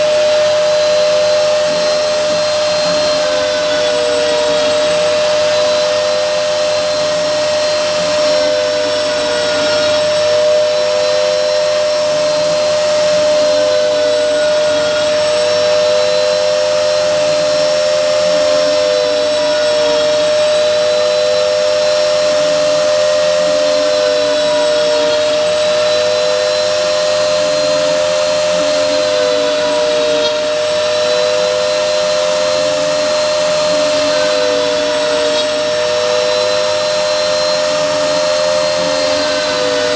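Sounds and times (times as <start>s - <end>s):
cutter tone dipping: 0.0s - 39.9s
router spindle whine: 0.0s - 39.9s.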